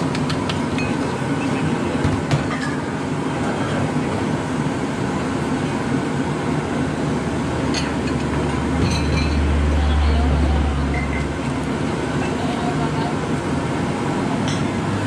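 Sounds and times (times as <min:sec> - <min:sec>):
gas burner rumbling: 0:00.0 - 0:15.0.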